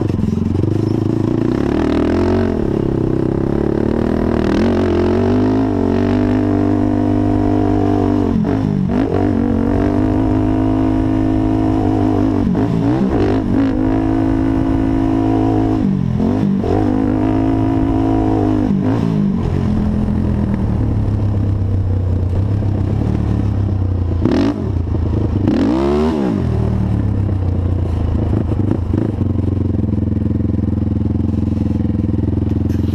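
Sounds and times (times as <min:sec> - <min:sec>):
quad engine revving: 0:00.0 - 0:27.2.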